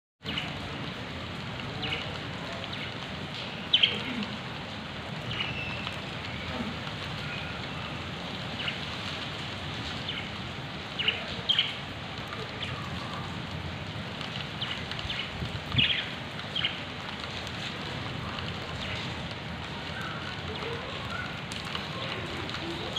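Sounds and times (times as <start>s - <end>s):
rain on wet paving: 0.2s - 22.9s.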